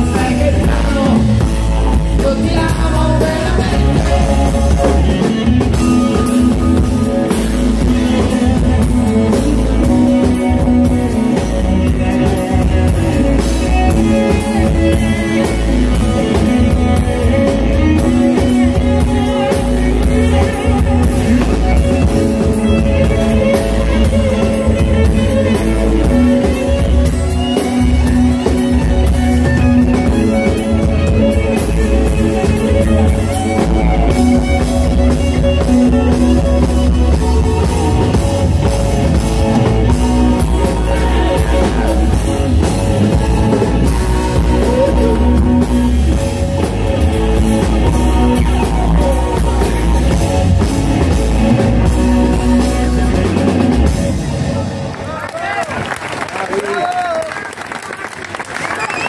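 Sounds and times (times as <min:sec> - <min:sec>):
drum kit: 0:00.0 - 0:54.9
keyboard: 0:00.0 - 0:56.5
electric guitar: 0:00.0 - 0:59.0.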